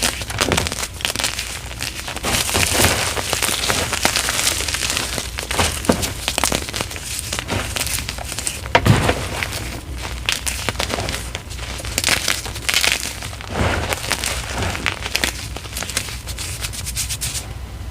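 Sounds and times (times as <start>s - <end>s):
chalk crushed by hand: 0.0s - 17.4s.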